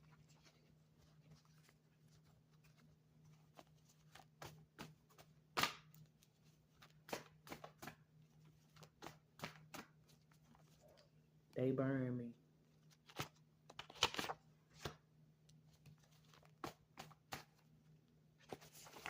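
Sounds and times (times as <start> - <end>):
cards being shuffled: 0.0 - 10.8, 12.9 - 15.0, 15.7 - 17.6, 18.4 - 19.0.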